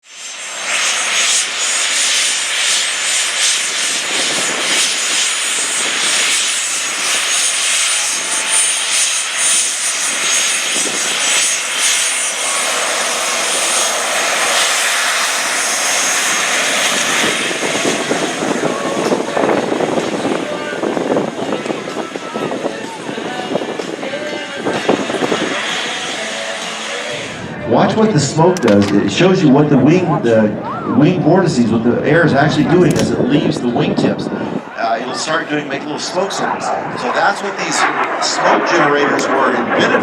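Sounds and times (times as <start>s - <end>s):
jet roar with high whine: 0.0s - 40.0s.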